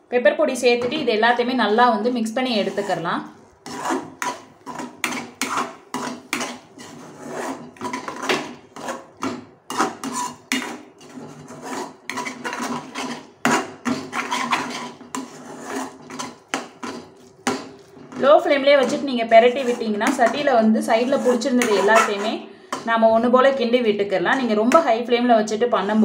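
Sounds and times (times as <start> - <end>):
steel spoon scraping metal pan: 0.8 - 23.3.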